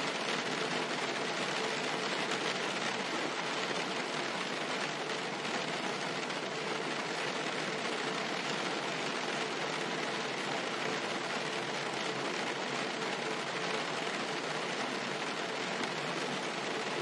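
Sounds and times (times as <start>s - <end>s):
rain on car roof: 0.0s - 17.0s.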